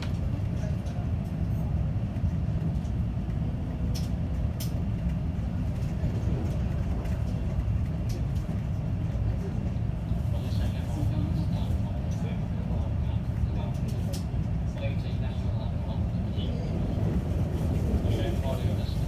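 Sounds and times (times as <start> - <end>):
train cabin rumble: 0.0 - 19.0.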